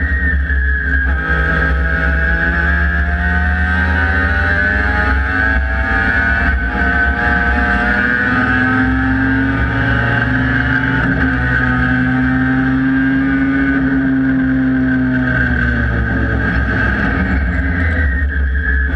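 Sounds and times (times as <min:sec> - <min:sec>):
race car engine running: 0:00.0 - 0:18.9.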